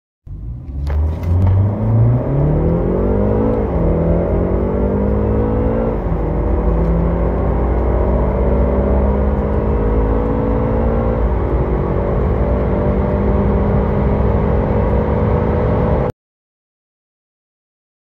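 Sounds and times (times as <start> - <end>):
car engine at full throttle: 0.3 - 16.1.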